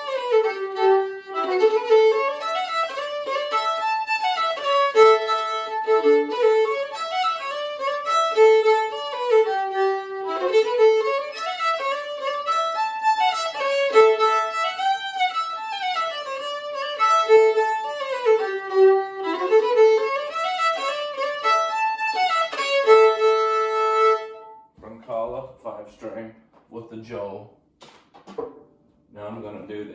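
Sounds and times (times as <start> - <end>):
solo fiddle melody: 0.0 - 24.8.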